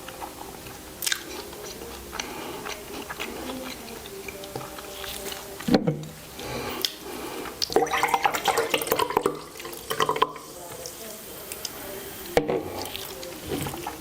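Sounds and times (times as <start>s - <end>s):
water splashing: 0.0s - 11.7s.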